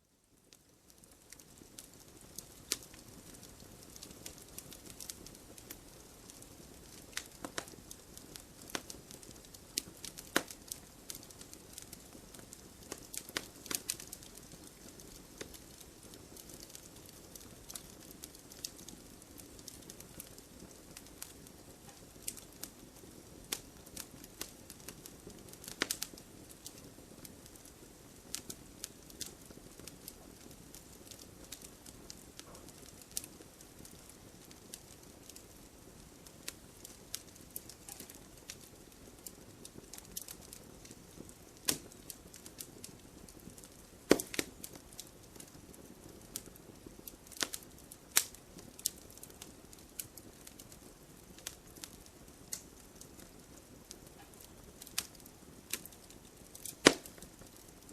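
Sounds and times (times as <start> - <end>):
burning wood crackling and popping: 0.2 - 57.9
campfire hissing: 0.4 - 57.9.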